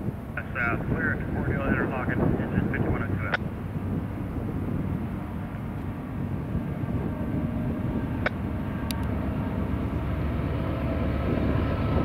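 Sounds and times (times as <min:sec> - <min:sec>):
diesel freight train droning: 0:00.0 - 0:12.0.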